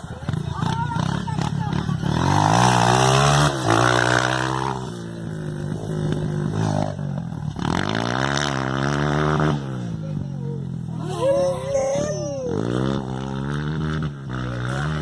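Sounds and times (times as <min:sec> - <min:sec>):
motocross bike engine revving: 0:00.0 - 0:11.1, 0:12.5 - 0:15.0.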